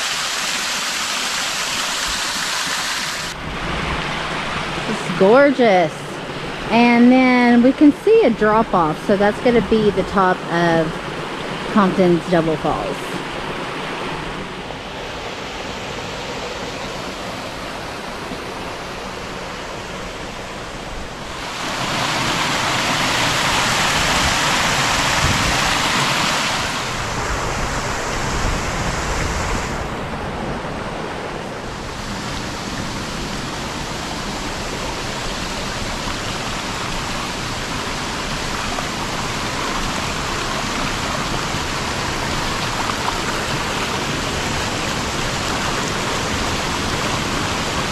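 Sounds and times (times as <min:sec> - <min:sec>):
waterfall and creek water rushing: 0:00.0 - 0:47.9.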